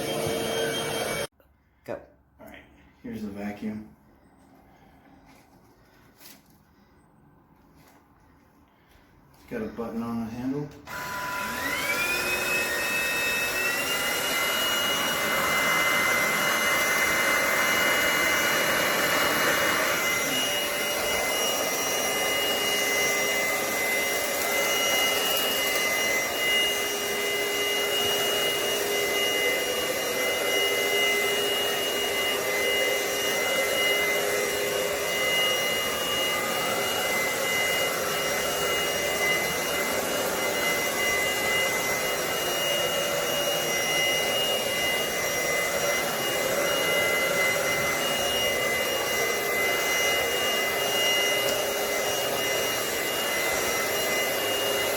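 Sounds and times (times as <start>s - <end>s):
vacuum cleaner motor whining: 0.0s - 1.3s, 8.8s - 54.9s.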